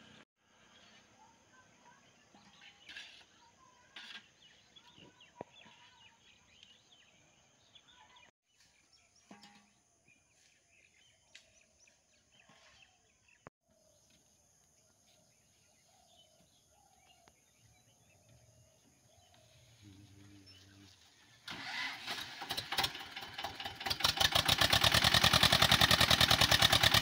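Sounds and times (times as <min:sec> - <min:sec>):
birds chirping: 0:00.0 - 0:23.5.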